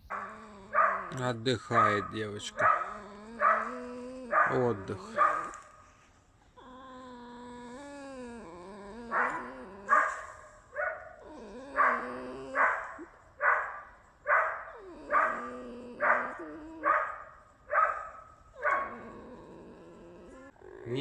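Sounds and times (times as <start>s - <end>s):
fox whining: 0.0s - 5.8s, 6.6s - 13.6s, 14.3s - 21.0s
fox yelping: 0.0s - 5.8s, 7.8s - 19.6s.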